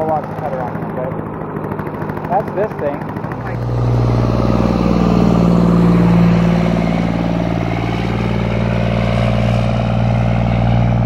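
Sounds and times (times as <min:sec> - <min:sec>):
truck diesel engine passing: 0:00.0 - 0:11.0.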